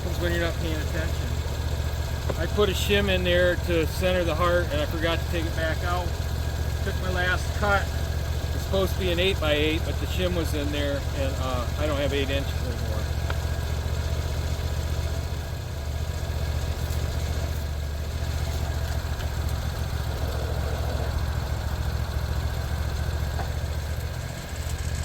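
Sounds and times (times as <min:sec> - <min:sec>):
sawmill engine humming: 0:00.0 - 0:25.0.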